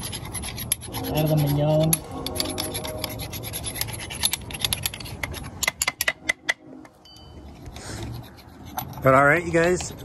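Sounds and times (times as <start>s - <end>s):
metal pick scraping metal: 0.0s - 10.0s.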